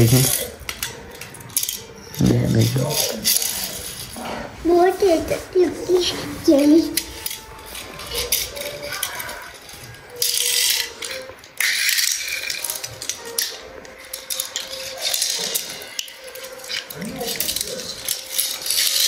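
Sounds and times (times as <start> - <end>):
toy car wheels rattling on tile: 0.0 - 19.0.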